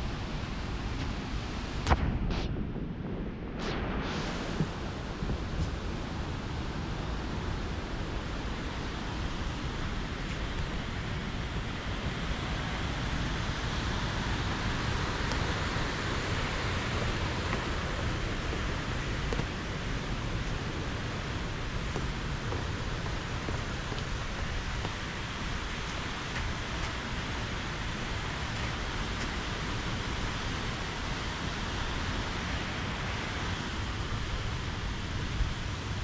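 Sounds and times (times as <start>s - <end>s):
creek water rushing: 5.3s - 36.0s.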